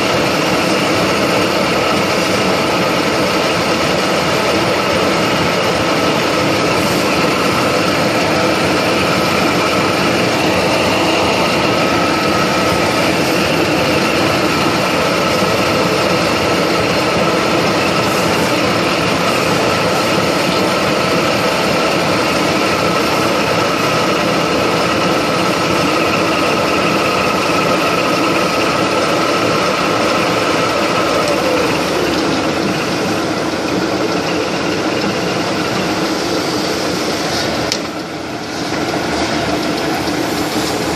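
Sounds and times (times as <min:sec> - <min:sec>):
milling machine cutting metal: 0:00.0 - 0:40.9.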